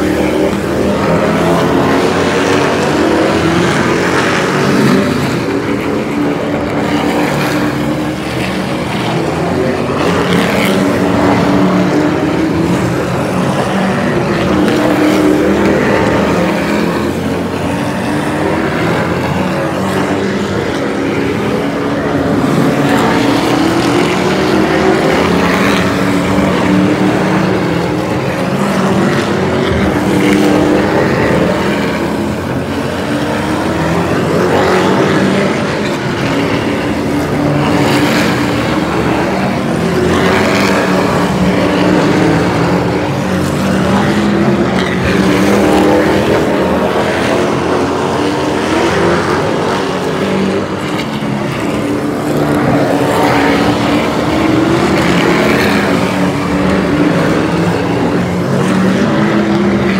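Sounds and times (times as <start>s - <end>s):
race truck engines passing by: 0.0s - 59.9s.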